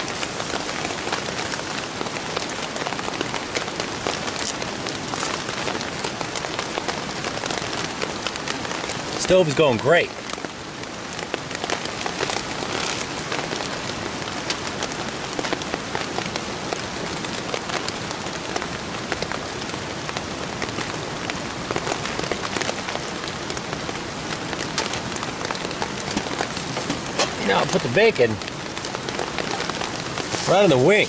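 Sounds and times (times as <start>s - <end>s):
rain on a nylon tarp: 0.0s - 31.0s.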